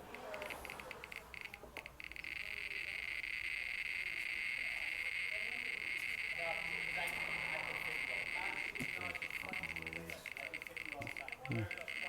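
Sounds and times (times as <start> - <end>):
geiger counter clicking: 0.0 - 12.0.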